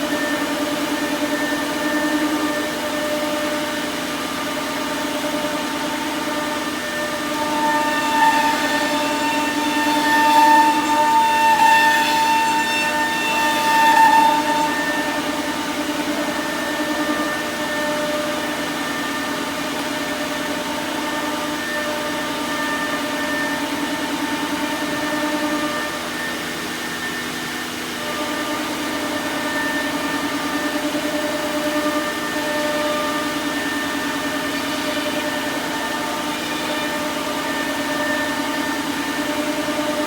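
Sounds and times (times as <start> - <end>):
router spindle whining: 0.0 - 40.0.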